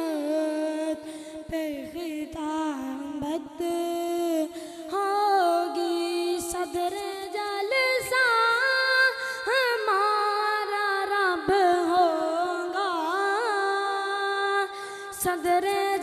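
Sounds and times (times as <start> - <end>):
boy chanting melodically: 0.0 - 16.0.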